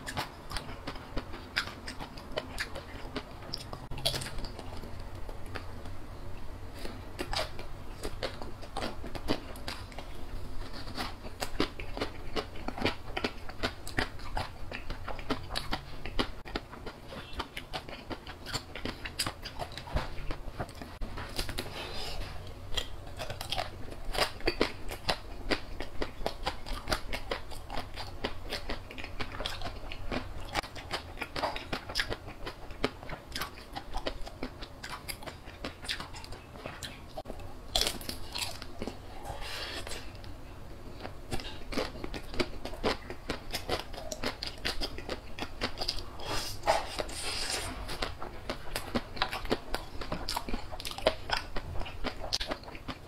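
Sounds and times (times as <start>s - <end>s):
crunchy chewing: 0.0s - 53.0s.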